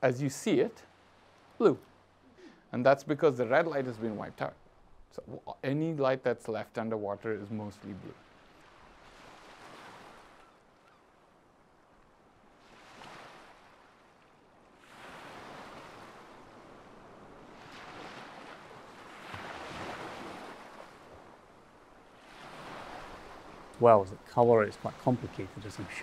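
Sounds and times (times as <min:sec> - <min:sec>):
waves breaking and washing in: 0:00.0 - 0:26.0.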